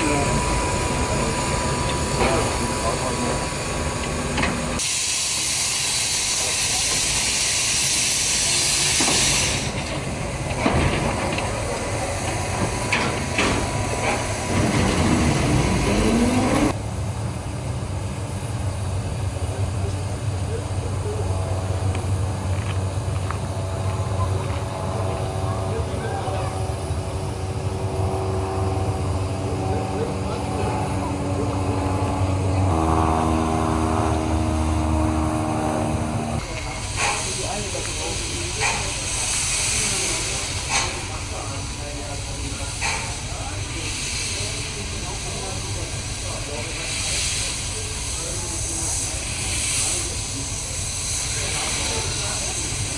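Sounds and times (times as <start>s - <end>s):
locomotive steam hissing: 0.0s - 52.9s.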